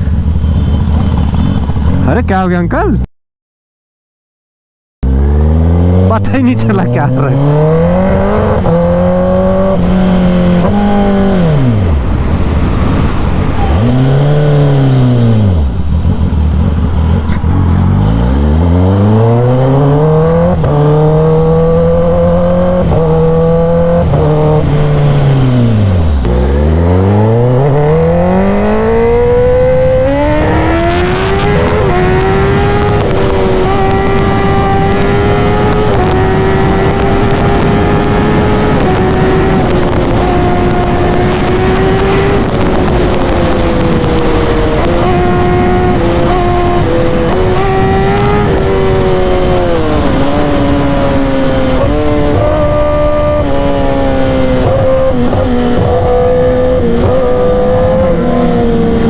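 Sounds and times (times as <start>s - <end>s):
motorcycle engine revving: 0.0s - 2.2s, 5.0s - 59.0s.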